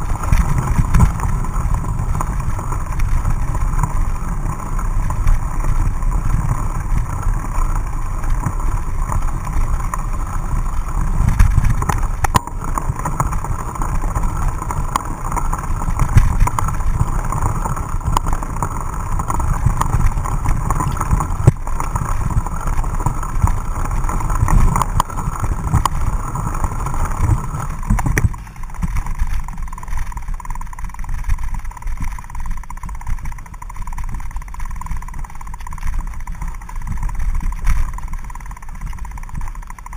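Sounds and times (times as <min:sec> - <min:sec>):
bike clicks and rattles: 0:00.0 - 0:39.9
low rumble of bike riding: 0:00.0 - 0:39.9.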